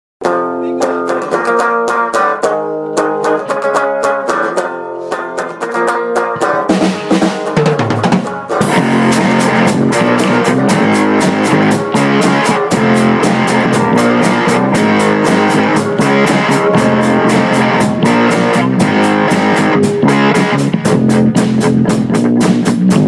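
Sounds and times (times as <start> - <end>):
guitar-led instrumental music: 0.2 - 23.0.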